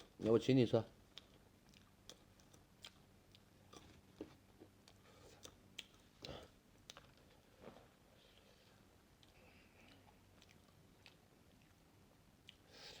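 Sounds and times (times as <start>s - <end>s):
person chewing: 1.1s - 13.0s.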